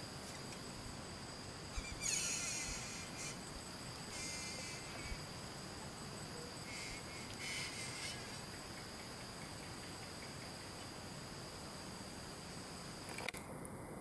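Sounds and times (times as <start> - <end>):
high-pitched insect chorus: 0.0 - 13.4.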